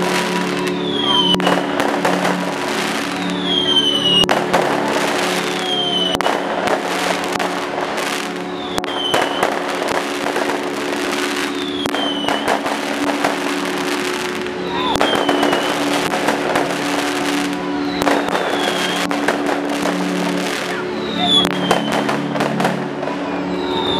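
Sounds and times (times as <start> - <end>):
fireworks whistles falling in pitch: 0.0 - 7.3, 8.0 - 23.9
background music: 0.0 - 23.9
fireworks bangs and crackling: 0.0 - 23.9.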